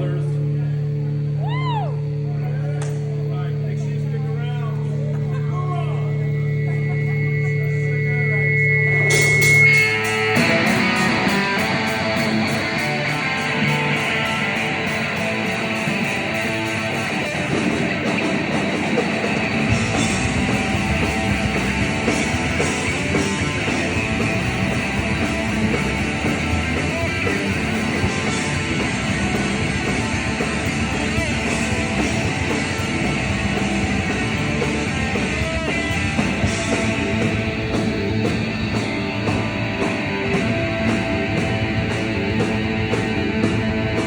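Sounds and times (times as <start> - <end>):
live rock band playing: 8.4 - 44.0.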